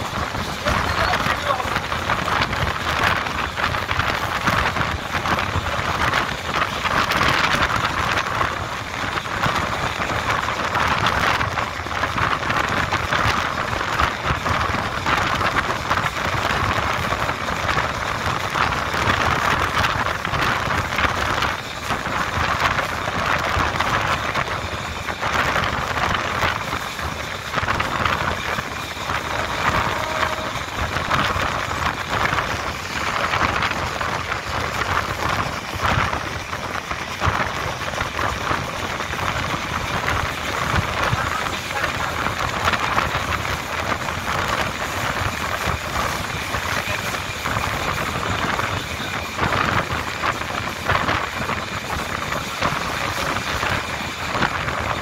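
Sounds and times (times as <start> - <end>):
train wheels on rails rushing: 0.0 - 55.0.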